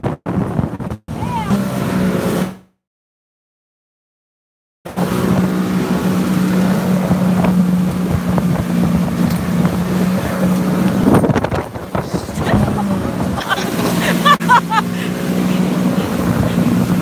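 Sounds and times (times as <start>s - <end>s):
wind buffeting microphone: 0.0s - 1.6s, 5.0s - 17.0s
boat engine droning: 1.1s - 2.7s, 4.9s - 17.0s.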